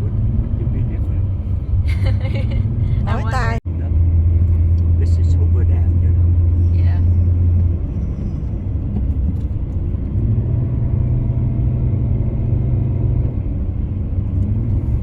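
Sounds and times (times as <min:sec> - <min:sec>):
car cabin road and engine rumble: 0:00.0 - 0:15.0.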